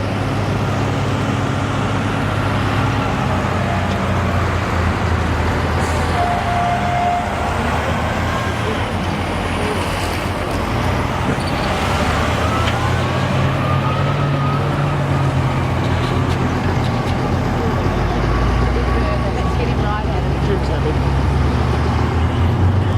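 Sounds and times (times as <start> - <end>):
road traffic: 0.0 - 22.9.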